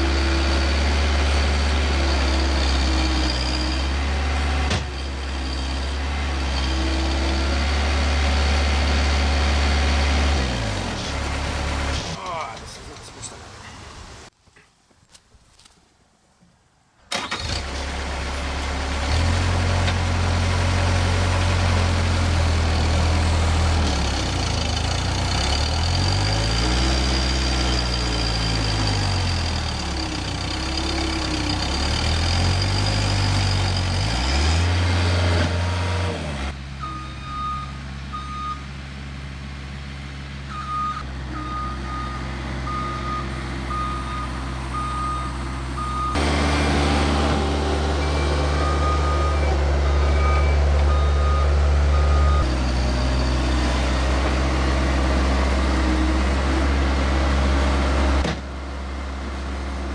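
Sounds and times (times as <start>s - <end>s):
diesel engine revving: 0.0s - 12.3s, 17.1s - 59.9s.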